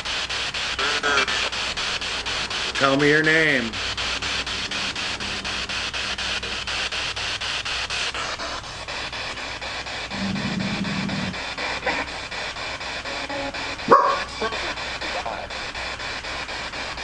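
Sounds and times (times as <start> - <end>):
loud static burst: 0.0 - 17.0
low hum of radio station: 0.0 - 17.0
radio static hiss: 0.0 - 17.0
rapid clicks: 0.0 - 17.0.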